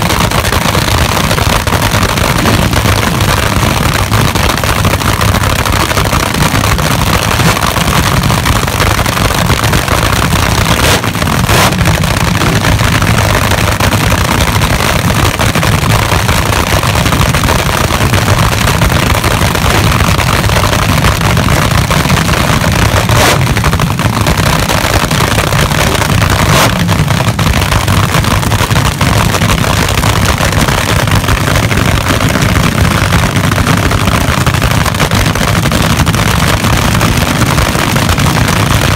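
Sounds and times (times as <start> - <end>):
drag race engines roaring: 0.0 - 38.9
sharp exhaust cracks: 0.0 - 38.9.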